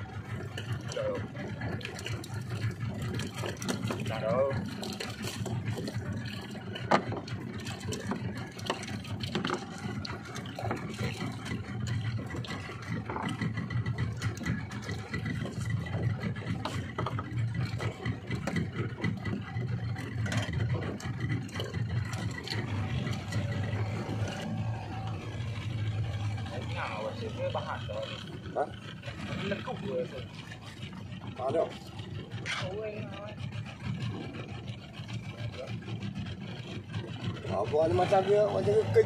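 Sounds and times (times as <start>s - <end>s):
outboard motor droning: 0.0s - 39.0s.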